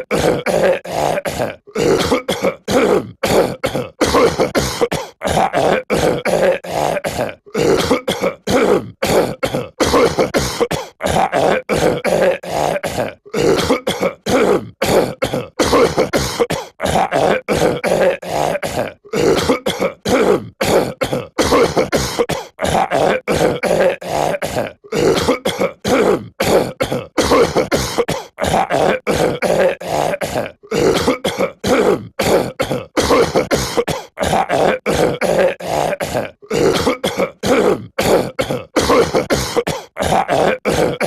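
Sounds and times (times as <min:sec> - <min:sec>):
cartoon man clearing throat: 0:00.0 - 0:41.0.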